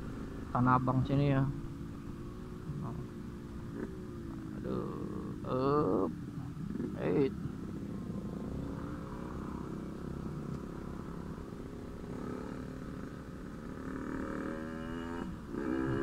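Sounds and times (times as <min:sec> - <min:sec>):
low road rumble: 0:00.0 - 0:16.0
motorcycle engine accelerating: 0:00.0 - 0:16.0.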